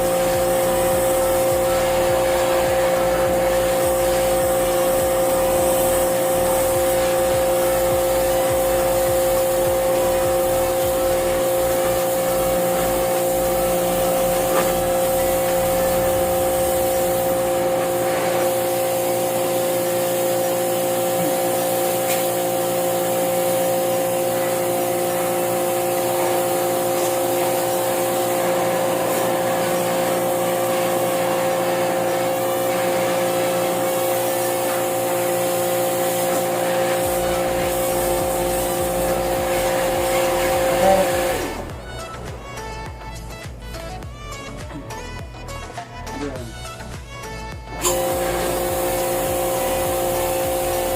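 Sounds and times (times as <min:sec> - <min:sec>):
water spray hissing: 0:00.0 - 0:45.1, 0:46.6 - 0:50.9
pressure washer motor humming: 0:00.0 - 0:50.9.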